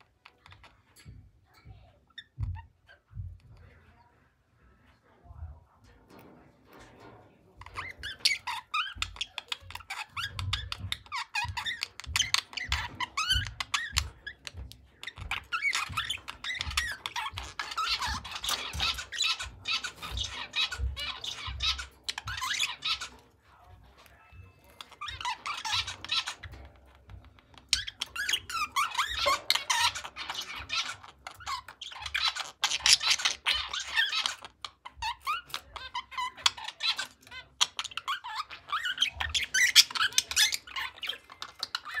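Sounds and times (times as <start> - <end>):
budgerigars chattering: 7.6 - 42.0.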